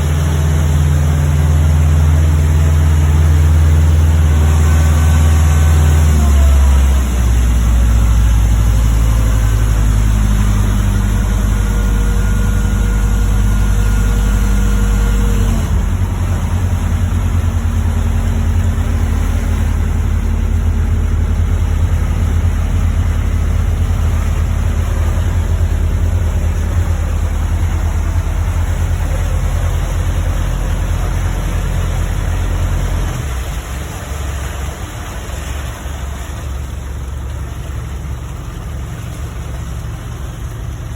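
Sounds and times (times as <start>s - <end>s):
boat diesel engine running: 0.0s - 40.9s.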